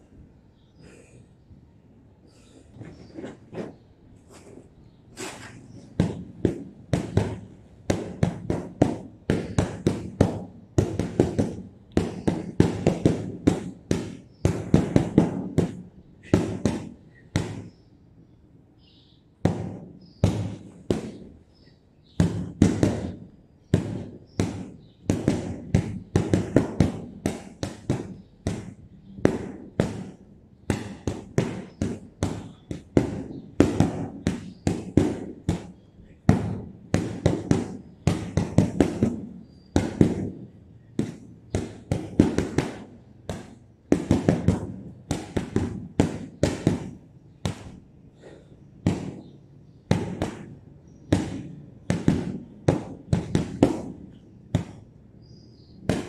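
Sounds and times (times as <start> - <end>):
gloves smacking punching bag: 5.2 - 17.8, 19.4 - 56.0.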